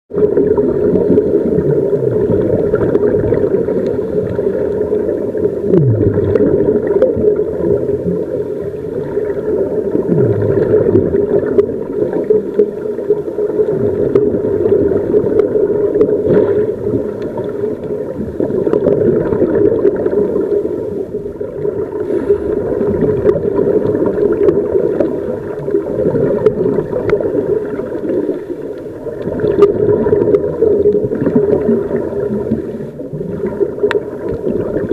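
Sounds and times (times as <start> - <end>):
gurgling underwater bubbles: 0.1 - 34.9.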